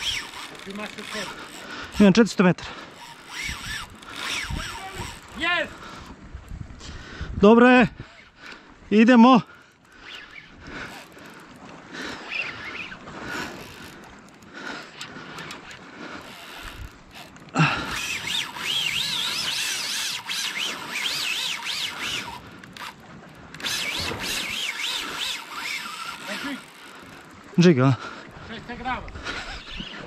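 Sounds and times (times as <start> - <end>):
fishing reel whining: 0.0 - 6.2, 8.0 - 8.4, 9.6 - 27.6, 29.2 - 30.0.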